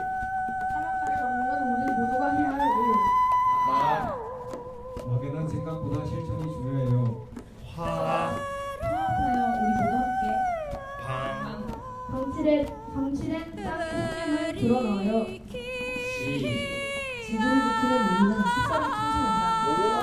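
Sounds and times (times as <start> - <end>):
people singing into microphone: 0.0 - 20.0.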